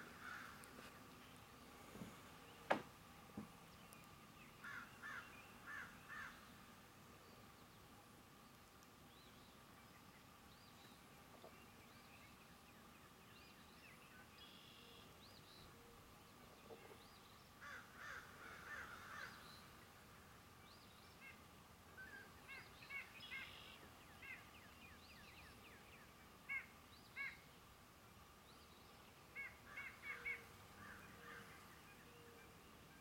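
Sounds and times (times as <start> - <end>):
birds calling and chirping: 0.0 - 20.0, 20.6 - 27.6, 28.5 - 33.0
faint steady tone: 0.0 - 33.0.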